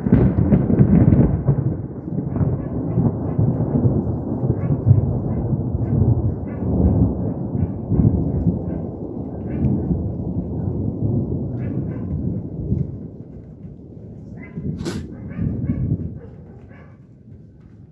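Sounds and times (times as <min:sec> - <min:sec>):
rolling thunder: 0:00.0 - 0:17.9.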